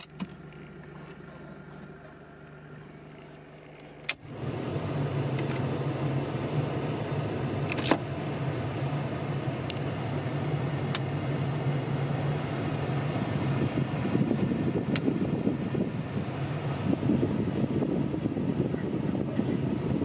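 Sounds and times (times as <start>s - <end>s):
heater blower fan rushing air: 0.2s - 20.0s.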